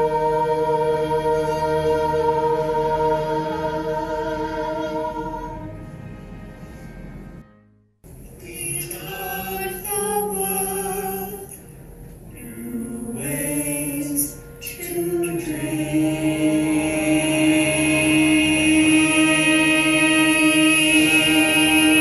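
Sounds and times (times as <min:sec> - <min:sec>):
voices singing held notes: 0:00.0 - 0:06.0, 0:08.4 - 0:11.6, 0:12.4 - 0:22.0.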